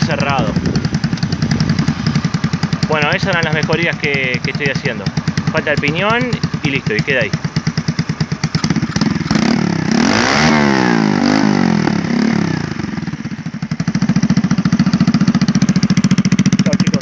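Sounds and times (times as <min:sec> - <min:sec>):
chainsaw engine idling and revving: 0:00.0 - 0:17.0.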